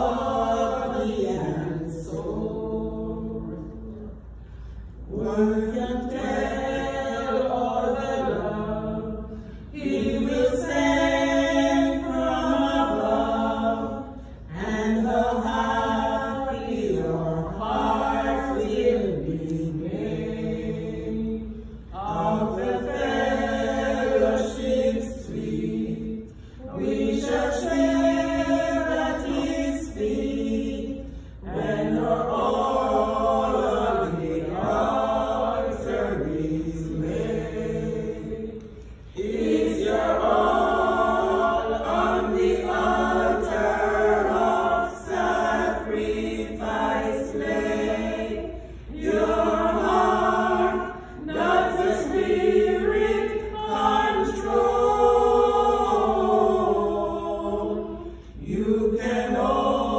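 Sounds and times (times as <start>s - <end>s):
women singing a hymn: 0.0s - 59.9s.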